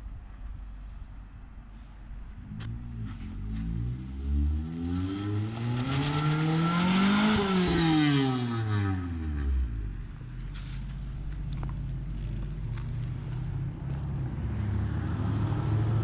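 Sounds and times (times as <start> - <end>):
car engine revving: 2.4 - 16.0.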